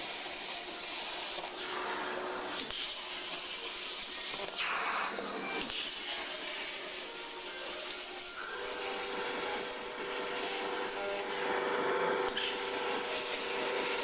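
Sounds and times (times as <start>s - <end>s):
plasma torch hissing: 0.0s - 14.0s.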